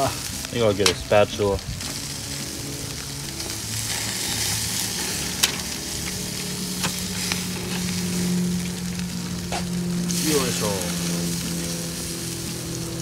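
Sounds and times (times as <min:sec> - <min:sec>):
fish sizzling on a grill: 0:00.0 - 0:13.0
low steady hum: 0:00.0 - 0:13.0.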